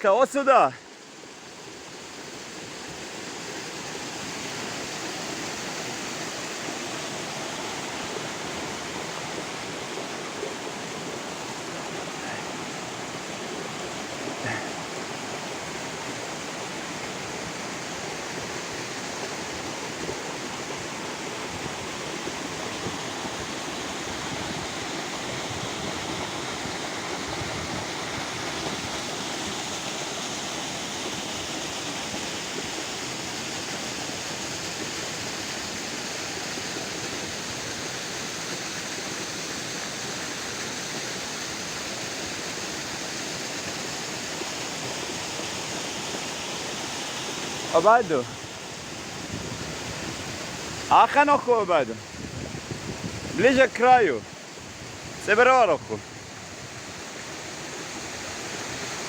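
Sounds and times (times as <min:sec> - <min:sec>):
fast-flowing water rushing: 0:00.0 - 0:59.0.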